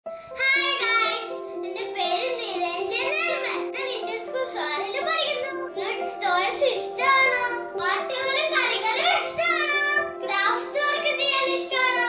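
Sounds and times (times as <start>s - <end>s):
backing music with held note: 0.1s - 12.0s
child singing: 0.4s - 12.0s.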